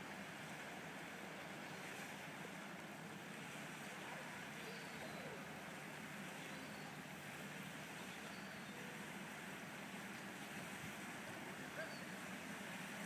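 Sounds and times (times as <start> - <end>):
distant boat engine humming: 0.0 - 13.0
water: 0.0 - 13.0
wind: 0.0 - 13.0.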